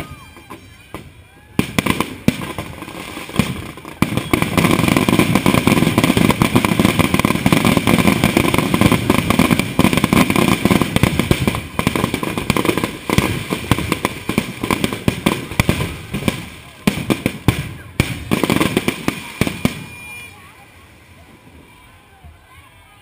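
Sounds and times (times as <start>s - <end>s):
fireworks bangs and crackles: 0.0s - 22.5s.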